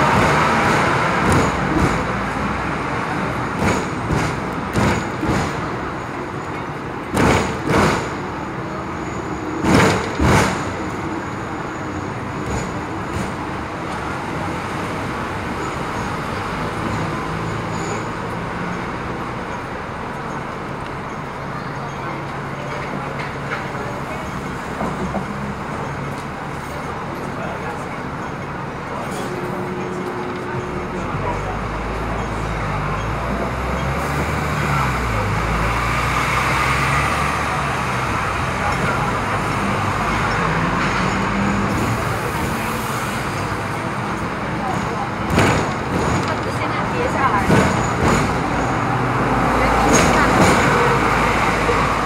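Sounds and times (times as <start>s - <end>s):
road traffic: 0.0s - 52.0s
tram rumbling: 0.0s - 52.0s.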